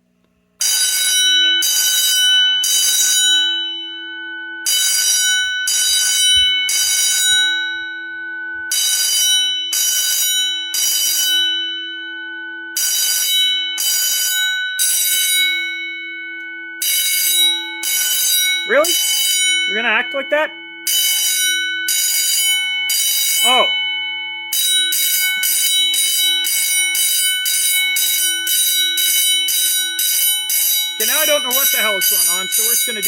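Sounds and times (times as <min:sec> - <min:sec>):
fire alarm bell ringing: 0:00.6 - 0:33.0.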